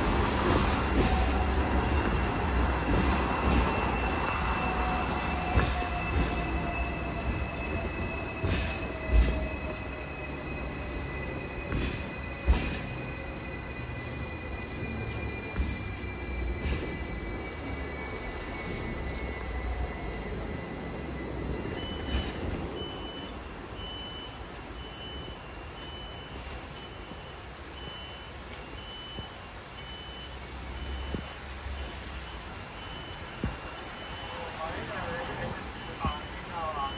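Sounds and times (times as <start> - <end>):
tram rumbling with high whine: 0.0 - 36.9.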